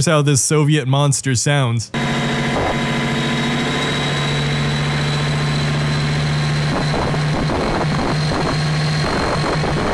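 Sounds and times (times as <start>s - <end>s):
diesel engine humming: 1.9s - 9.9s
high whine: 1.9s - 9.9s.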